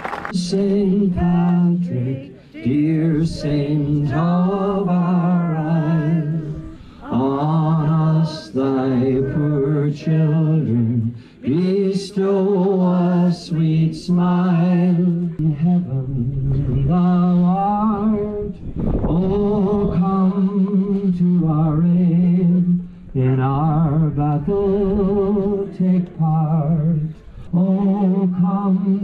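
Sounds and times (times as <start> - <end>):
man singing unaccompanied: 0.3 - 29.0.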